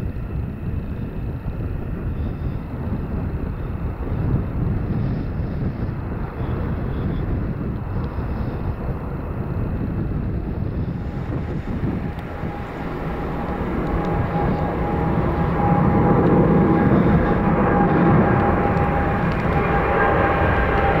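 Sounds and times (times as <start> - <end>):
jet engine whine: 0.0 - 21.0
jet engines rumbling: 0.0 - 21.0.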